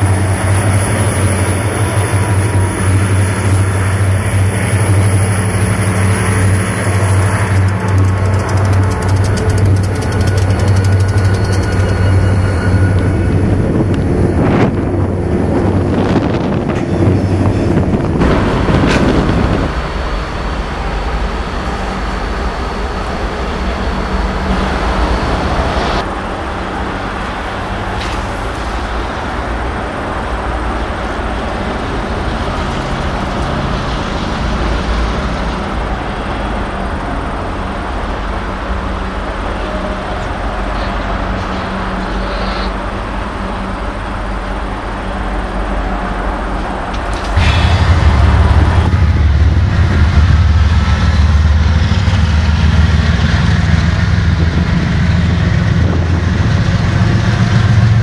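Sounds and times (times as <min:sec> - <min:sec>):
diesel locomotive engine: 0:00.0 - 0:58.0
rolling rail noise: 0:00.0 - 0:58.0.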